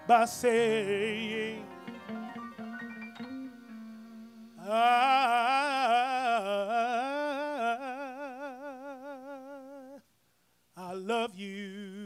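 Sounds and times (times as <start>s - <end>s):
man singing ad-lib with vibrato: 0.0s - 10.1s, 10.7s - 12.0s.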